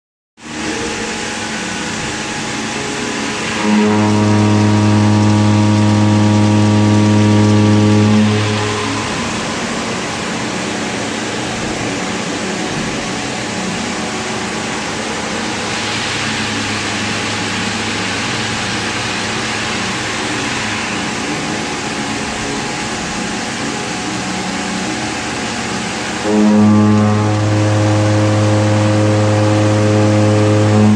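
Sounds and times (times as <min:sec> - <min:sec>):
hissing milling machine noise: 0:00.4 - 0:30.9
strong humming tone: 0:00.4 - 0:30.9.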